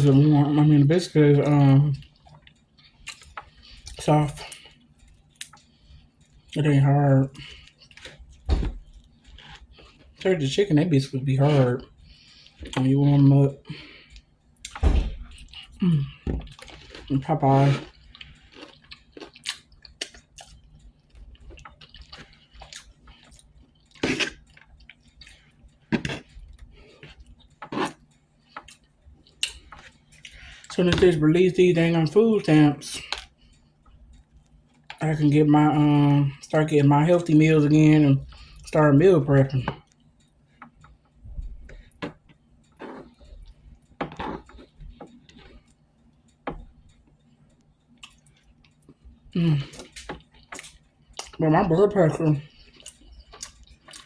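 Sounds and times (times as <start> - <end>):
chewing with wet mouth clicks: 1.3 - 10.7, 11.4 - 12.9, 13.7 - 30.8, 32.0 - 35.0, 36.4 - 54.0.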